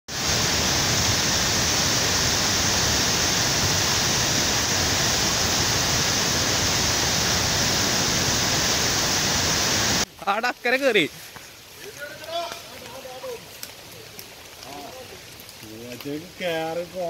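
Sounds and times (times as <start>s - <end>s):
flooded river rushing: 0.1s - 15.6s.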